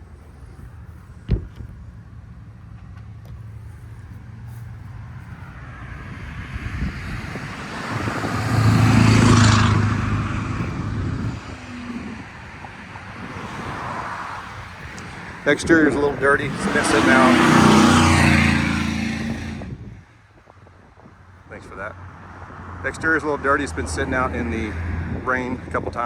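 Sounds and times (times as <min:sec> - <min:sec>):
vehicle passing by: 0:00.0 - 0:20.0, 0:21.5 - 0:26.0.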